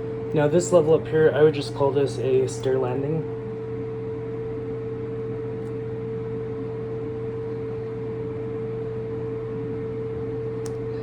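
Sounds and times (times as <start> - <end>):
fan motor humming: 0.0 - 11.0.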